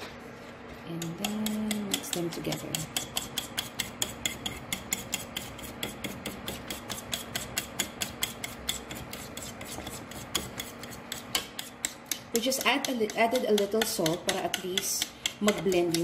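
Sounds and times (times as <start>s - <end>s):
fork beating eggs in a dish: 0.9s - 16.0s.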